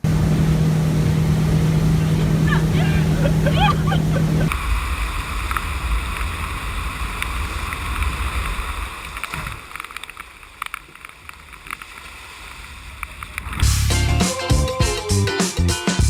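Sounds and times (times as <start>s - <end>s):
wind rumbling on microphone: 0.0s - 13.7s
rushing water: 0.0s - 14.1s.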